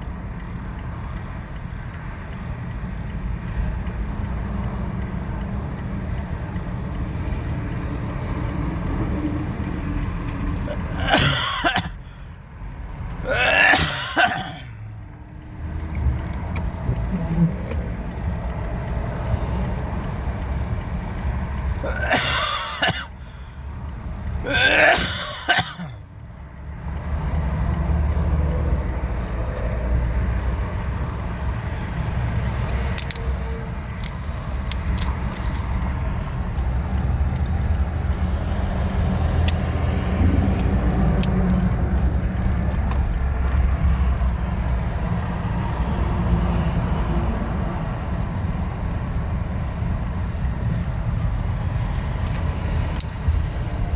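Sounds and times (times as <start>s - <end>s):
vehicle engine and road rumble: 0.0s - 53.9s.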